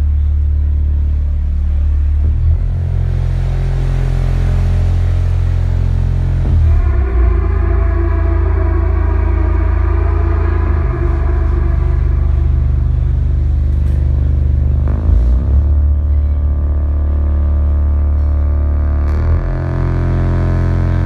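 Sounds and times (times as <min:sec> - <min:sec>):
deep bass notes: 0:00.0 - 0:21.0
sustained keyboard chords: 0:00.0 - 0:21.0.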